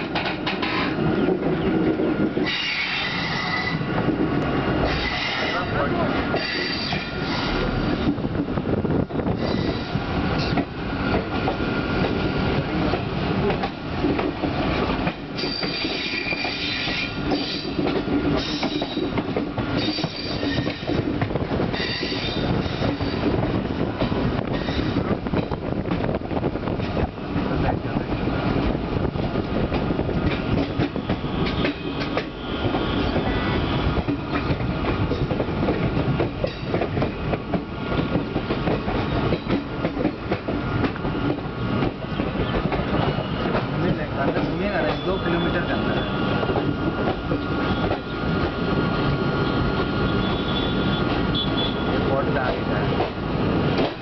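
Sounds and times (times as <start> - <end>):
train wheel and track noise: 0.0 - 54.0.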